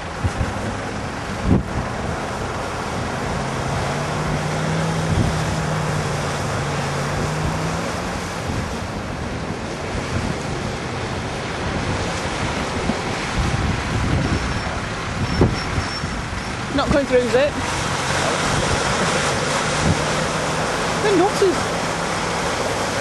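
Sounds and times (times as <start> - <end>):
truck engine droning: 0.0 - 23.0
wind noise on microphone: 0.0 - 23.0.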